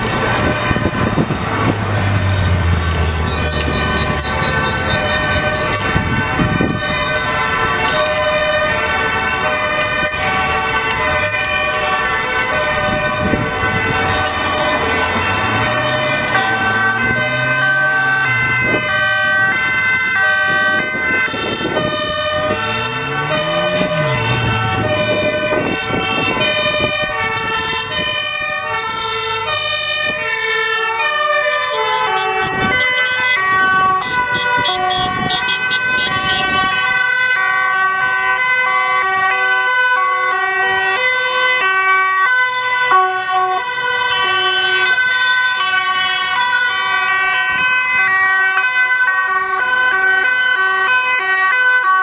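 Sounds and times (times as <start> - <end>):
rising and falling siren wail: 0.0 - 52.0
two-tone emergency sirens: 0.0 - 52.0.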